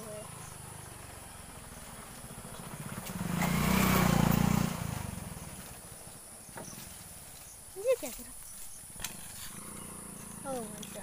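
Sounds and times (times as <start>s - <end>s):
passing vehicle engine: 0.0s - 7.3s, 8.9s - 11.0s.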